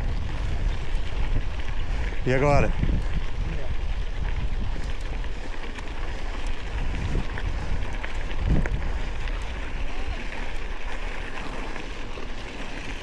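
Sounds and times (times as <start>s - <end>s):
vehicle low rumble: 0.0s - 13.0s
wind buffeting microphone: 0.0s - 13.0s.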